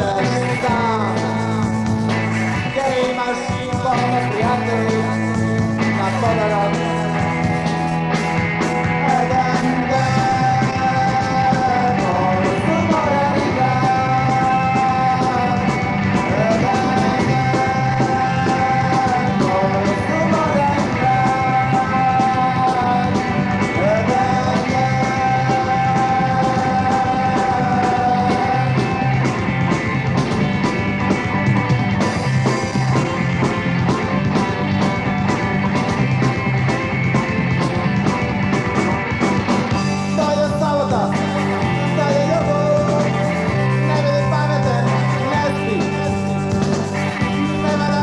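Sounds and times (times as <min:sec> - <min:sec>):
rock band playing: 0:00.0 - 0:48.0
sliding lead guitar notes: 0:00.0 - 0:48.0.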